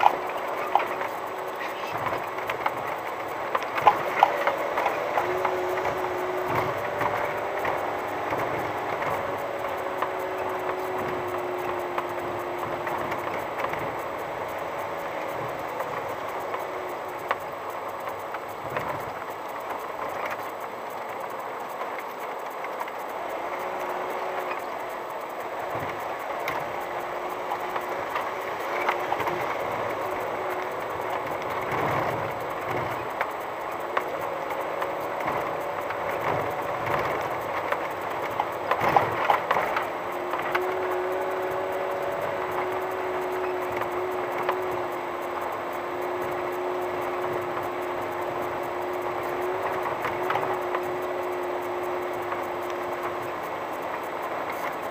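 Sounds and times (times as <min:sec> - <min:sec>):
knocks and rattles of van: 0:00.0 - 0:51.0
low engine hum: 0:00.0 - 0:54.9
tyre and road noise: 0:00.0 - 0:54.9.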